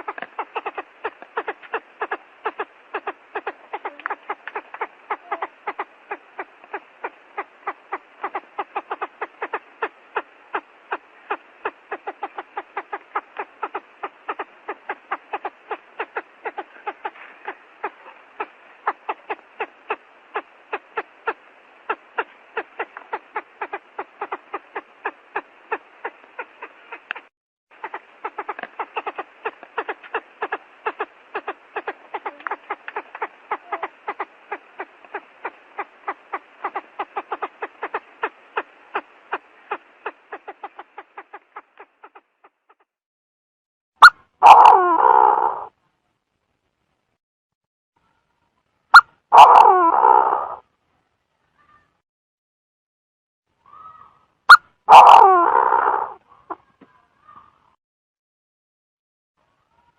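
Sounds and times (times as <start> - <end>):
quail calling: 0.0 - 42.9, 44.0 - 45.7, 48.9 - 50.6, 53.7 - 57.5.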